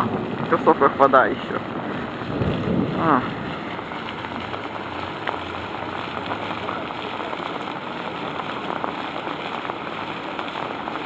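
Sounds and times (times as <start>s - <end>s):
faint water drops ticking: 0.0s - 11.0s
fountain running: 0.0s - 11.0s
rain water splashing: 0.0s - 11.0s.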